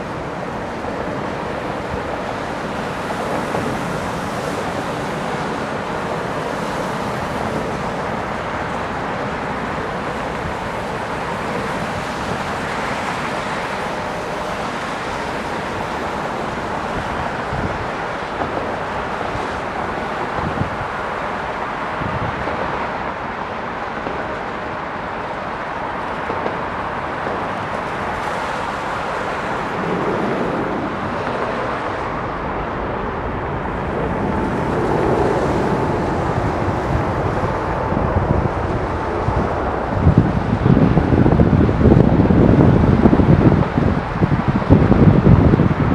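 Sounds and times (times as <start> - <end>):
jet engines rushing: 0.0 - 45.9
wind on microphone: 0.0 - 45.9.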